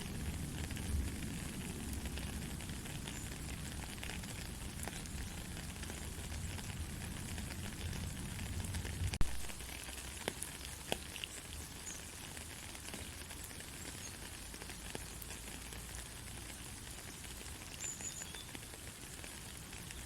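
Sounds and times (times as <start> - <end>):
gentle steady rain: 0.0 - 20.0.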